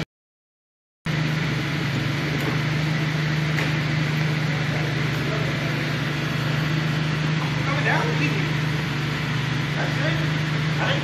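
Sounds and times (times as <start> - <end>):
engine running at low revs: 1.1 - 11.0.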